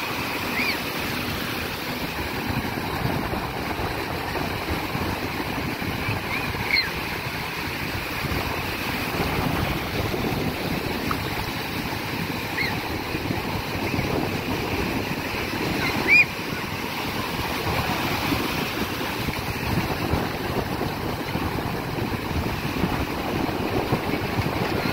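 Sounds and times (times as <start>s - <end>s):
sea waves breaking: 0.0s - 24.9s.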